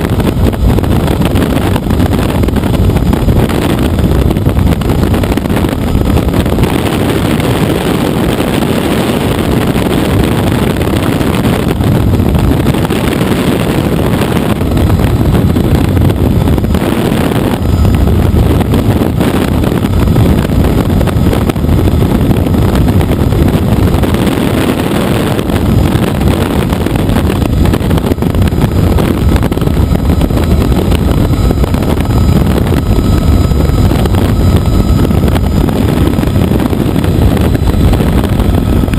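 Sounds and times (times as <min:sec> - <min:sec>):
helicopter engine and rotor: 0:00.0 - 0:38.9
wind buffeting microphone: 0:00.0 - 0:38.9.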